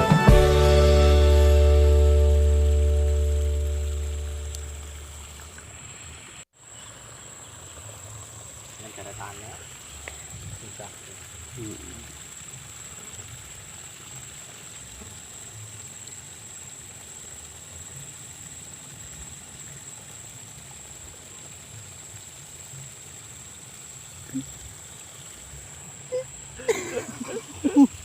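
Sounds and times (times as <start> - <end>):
flowing water: 0.0 - 28.0.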